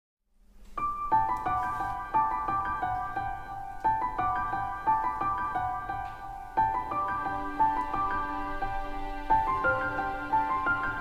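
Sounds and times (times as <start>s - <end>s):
gentle piano-like melody: 0.4s - 11.0s.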